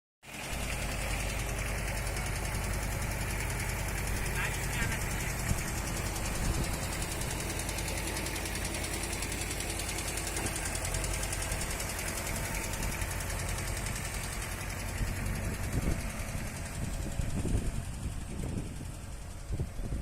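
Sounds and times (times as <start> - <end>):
diesel engine running: 0.2 - 20.0.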